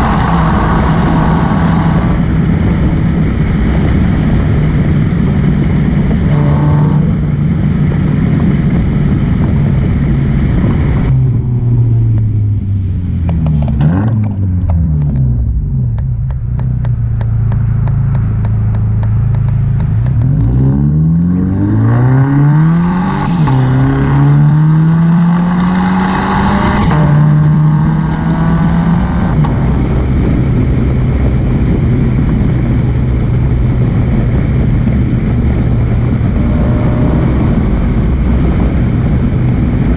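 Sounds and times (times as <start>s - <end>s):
exhaust crackles: 0.0s - 25.2s, 26.0s - 39.9s
car engine accelerating: 0.0s - 39.9s.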